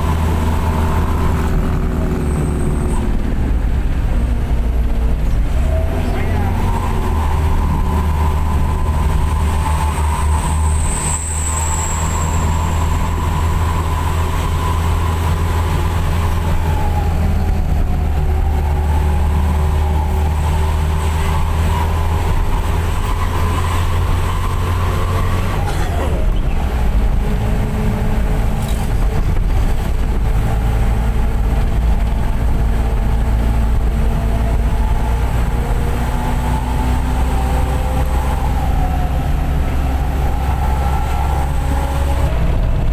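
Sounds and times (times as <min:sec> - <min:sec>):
minibus engine and exhaust droning: 0:00.0 - 0:42.9.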